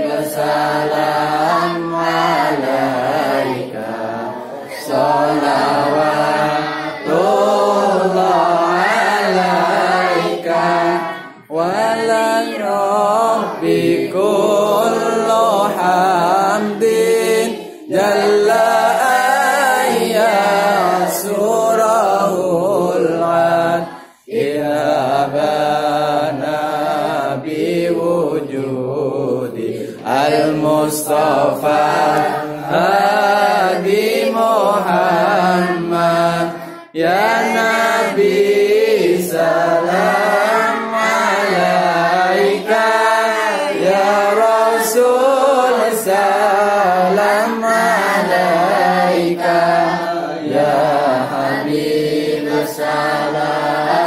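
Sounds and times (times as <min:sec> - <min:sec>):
children chanting a devotional song: 0:00.0 - 0:54.0.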